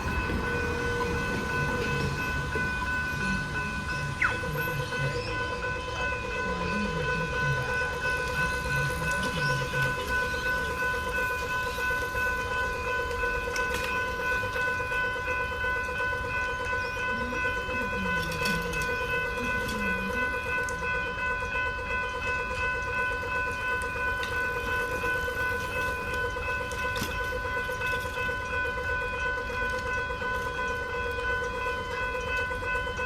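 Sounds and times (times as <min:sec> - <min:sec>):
electronic crossing bell ringing: 0:00.0 - 0:33.0.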